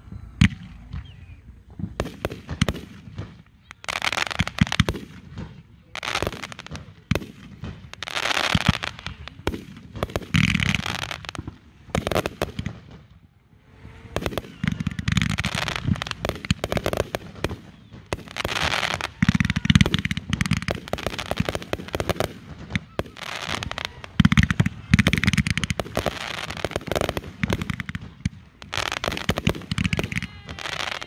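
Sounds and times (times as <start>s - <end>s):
fireworks bangs: 0.0s - 31.0s
fireworks crackling bursts: 0.0s - 31.0s.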